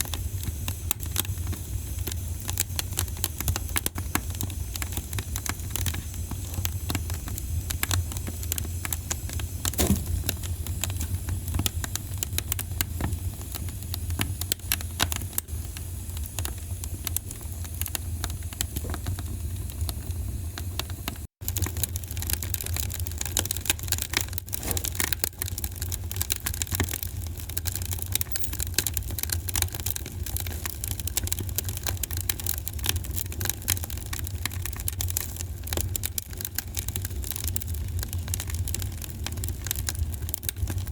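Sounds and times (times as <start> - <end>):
fire low rumble: 0.0 - 40.9
wood fire crackling: 0.0 - 40.9.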